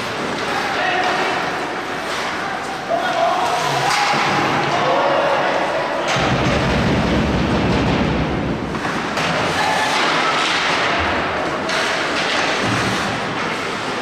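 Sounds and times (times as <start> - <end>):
echoing din of rink and spectators: 0.0 - 14.0.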